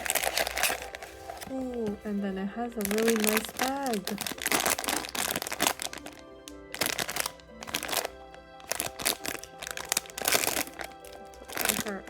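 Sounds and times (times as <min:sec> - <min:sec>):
packaging crinkling: 0:00.0 - 0:12.0
soft background music: 0:00.0 - 0:12.0.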